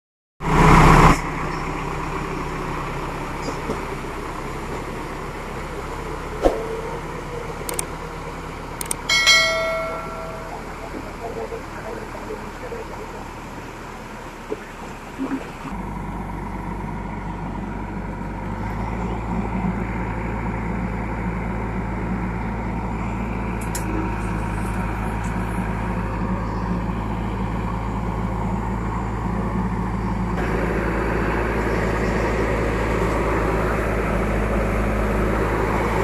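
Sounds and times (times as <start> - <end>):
diesel engine running: 0.4 - 36.0
hydraulics working: 0.5 - 36.0.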